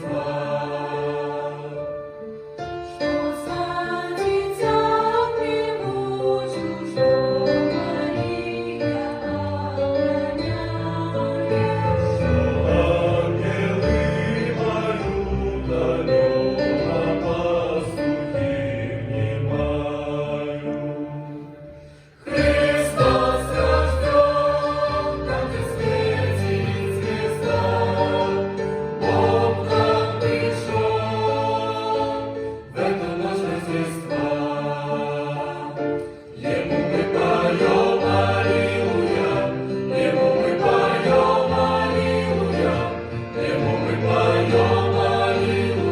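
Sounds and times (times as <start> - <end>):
choir singing sustained chords: 0.0 - 45.9.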